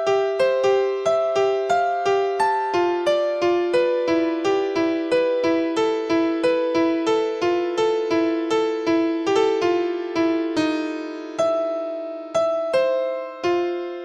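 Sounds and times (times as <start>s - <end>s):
electric piano melody: 0.0s - 14.0s.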